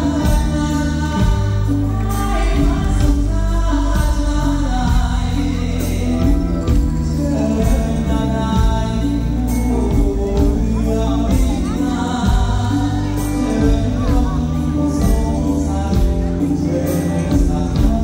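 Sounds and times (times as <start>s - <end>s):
live band music: 0.0s - 18.0s
man singing into microphone: 0.0s - 18.0s.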